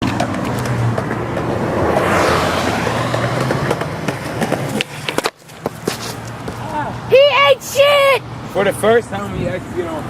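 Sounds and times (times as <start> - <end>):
skateboard wheels rolling on pavement: 0.0 - 10.0.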